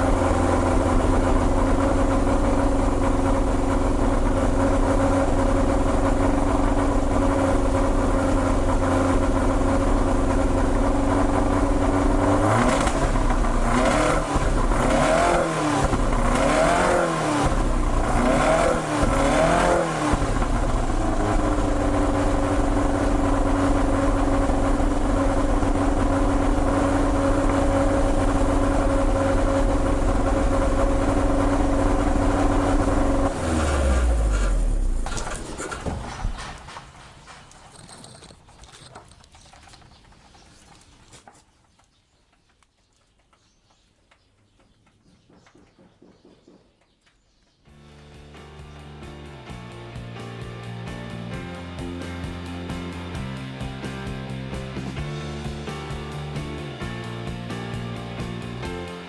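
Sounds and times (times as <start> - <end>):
car engine idling and revving: 0.0 - 36.4, 47.7 - 59.0.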